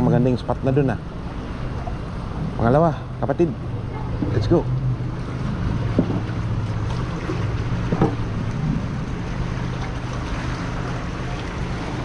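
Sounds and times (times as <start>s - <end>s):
low droning hum: 0.0s - 12.0s
water noise: 0.0s - 12.0s
wind: 0.0s - 12.0s.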